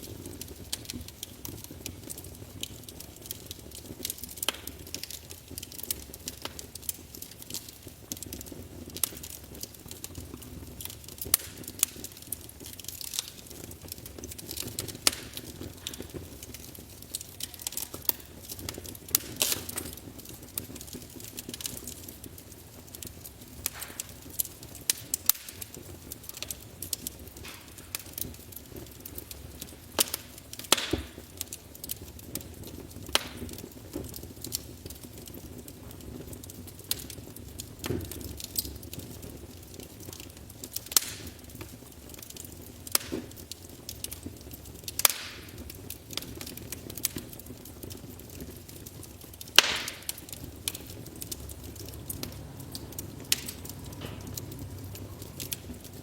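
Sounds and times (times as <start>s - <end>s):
fire pops and snaps: 0.0s - 56.0s
loud fire cracks: 0.0s - 56.0s
wood fire crackling: 0.0s - 56.0s.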